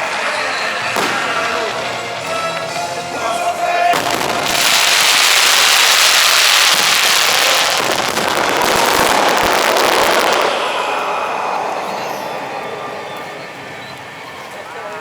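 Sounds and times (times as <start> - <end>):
firework hissing: 0.0 - 12.4
firework crackles: 0.0 - 14.9.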